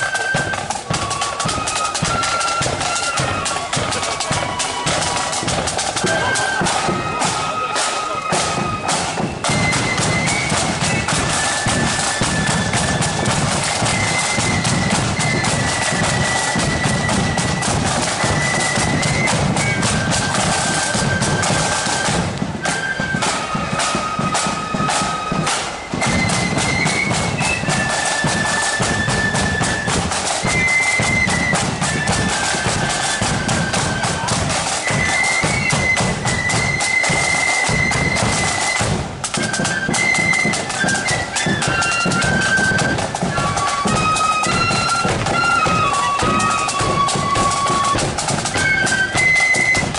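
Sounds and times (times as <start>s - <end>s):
flute band playing: 0.0s - 49.9s
side drums: 0.0s - 49.9s.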